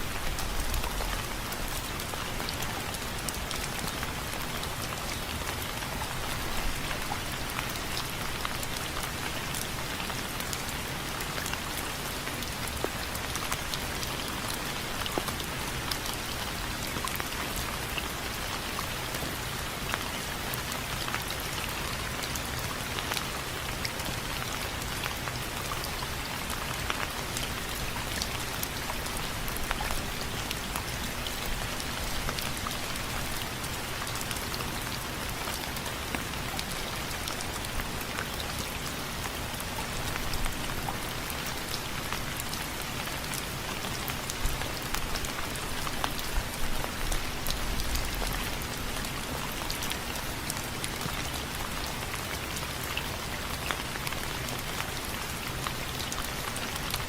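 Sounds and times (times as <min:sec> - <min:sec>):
raindrops ticking on hard surface: 0:00.0 - 0:57.0.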